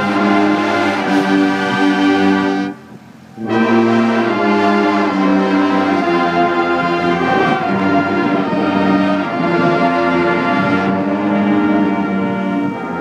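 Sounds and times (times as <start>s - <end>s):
marching band brass chords: 0.0s - 13.0s.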